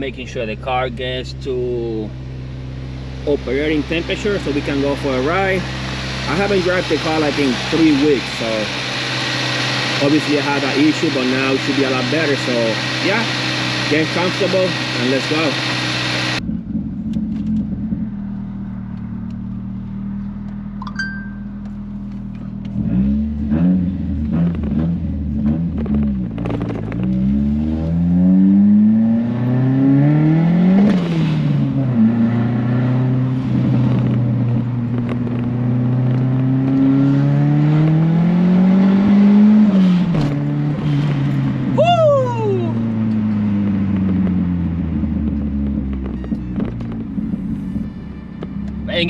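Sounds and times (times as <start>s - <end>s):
car engine idling and accelerating: 0.0s - 49.0s.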